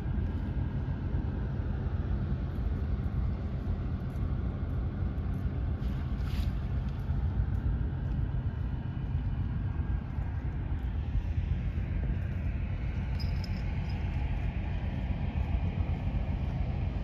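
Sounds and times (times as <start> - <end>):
faint distant hum: 0.0 - 17.0
wind buffeting microphone: 0.0 - 17.0.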